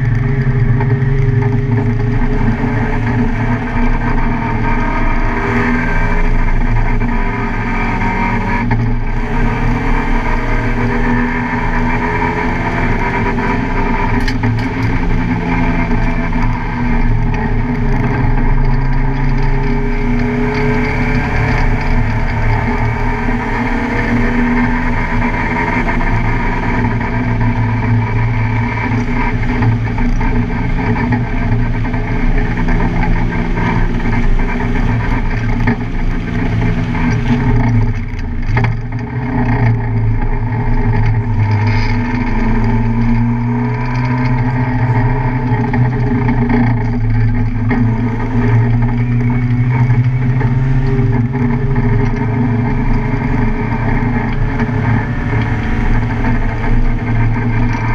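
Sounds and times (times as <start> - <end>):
car engine running hard: 0.0 - 57.9.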